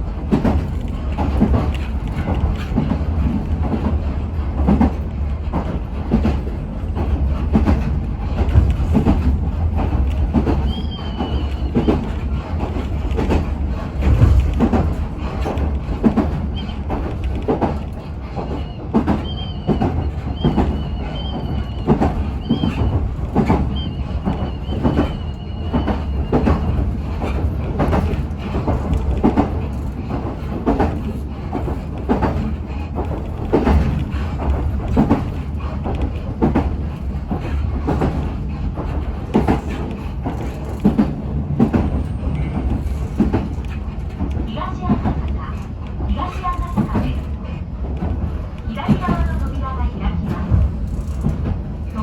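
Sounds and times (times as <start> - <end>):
train rumble: 0.0 - 52.0.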